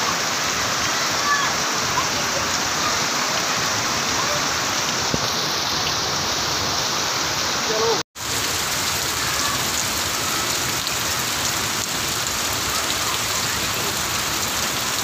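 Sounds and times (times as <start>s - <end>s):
heavy rain on wet ground: 0.0s - 15.0s.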